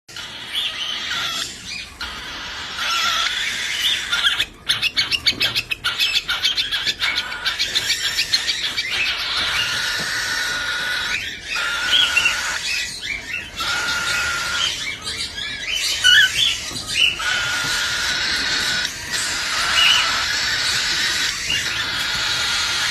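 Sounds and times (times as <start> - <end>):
birds squawking and chirping: 0.1 - 22.9.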